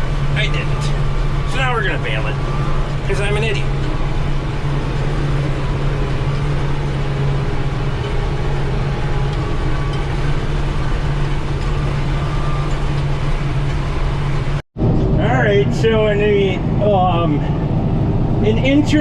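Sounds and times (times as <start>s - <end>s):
tractor engine droning: 0.0s - 19.0s.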